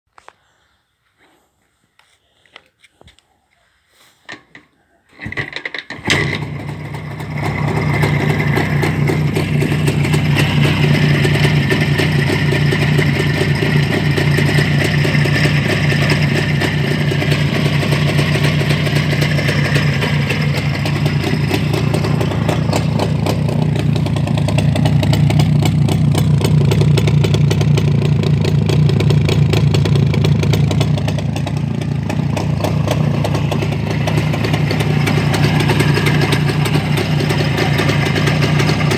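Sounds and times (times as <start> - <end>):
motorcycle engine starting and running: 4.4 - 38.9.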